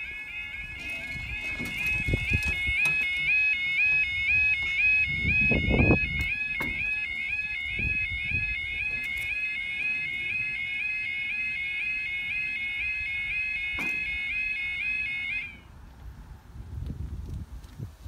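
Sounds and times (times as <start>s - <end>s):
level crossing alarm warble: 0.0s - 15.7s.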